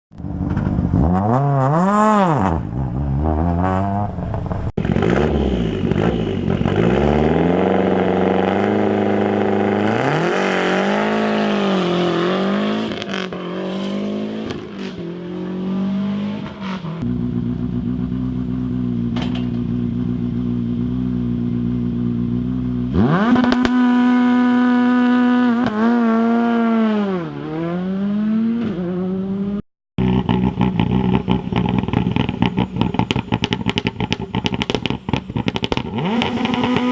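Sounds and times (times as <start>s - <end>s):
rally car engine revving: 0.2s - 36.9s.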